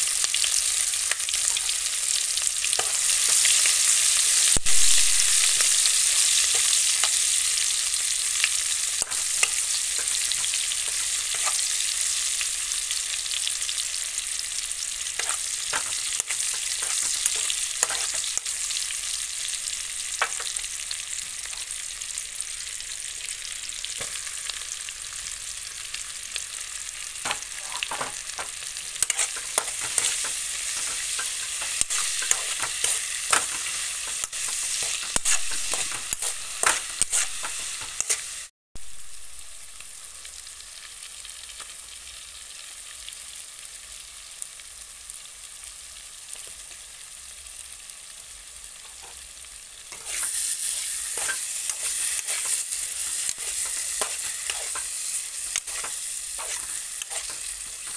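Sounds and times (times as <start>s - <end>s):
oil sizzling in a wok: 0.0s - 57.9s.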